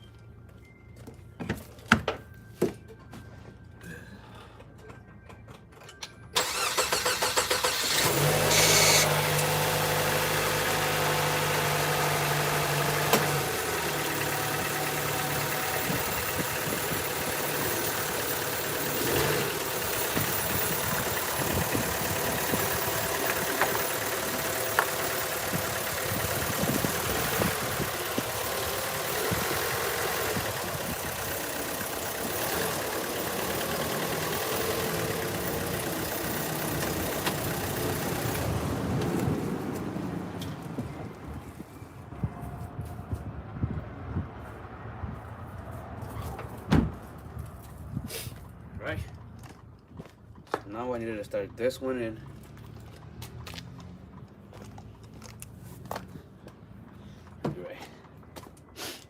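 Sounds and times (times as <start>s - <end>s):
car engine cranking and idling: 4.6s - 42.3s, 46.0s - 58.7s.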